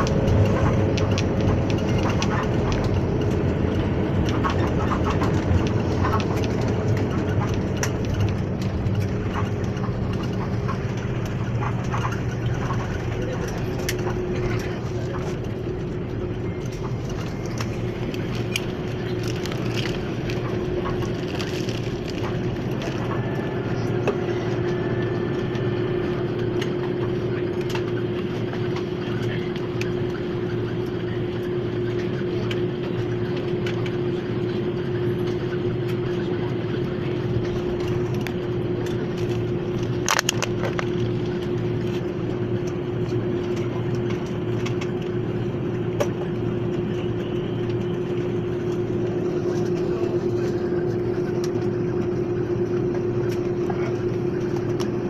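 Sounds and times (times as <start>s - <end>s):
jet engines and airflow rushing: 0.0s - 55.0s
mid-pitched hum: 0.0s - 55.0s.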